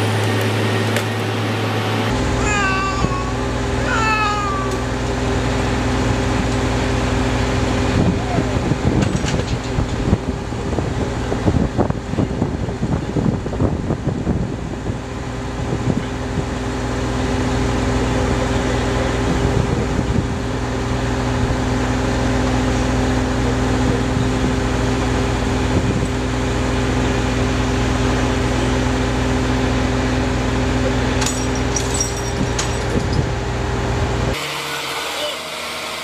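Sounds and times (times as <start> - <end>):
engine humming with rushing noise: 0.0 - 36.0.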